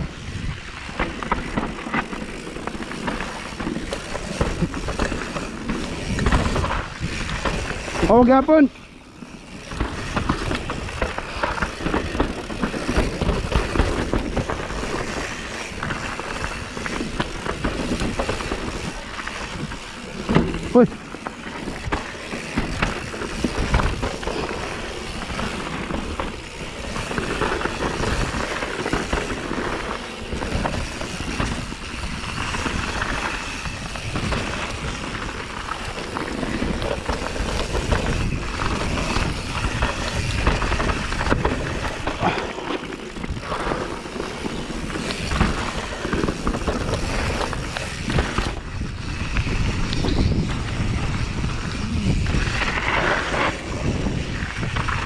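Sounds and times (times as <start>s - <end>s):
bike rattling over bumps: 0.0s - 55.0s
bike tyres on dirt and stones: 0.0s - 55.0s.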